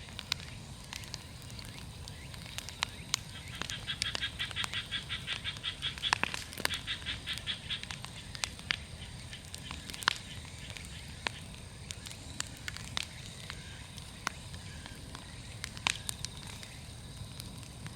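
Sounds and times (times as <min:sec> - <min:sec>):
bonfire crackling and popping: 0:00.0 - 0:17.9.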